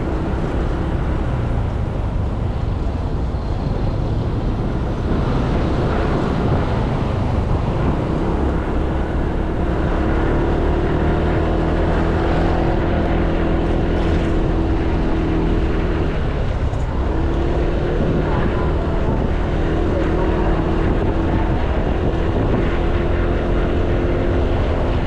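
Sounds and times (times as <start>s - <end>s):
road noise: 0.0s - 25.0s
wind on microphone: 0.0s - 25.0s.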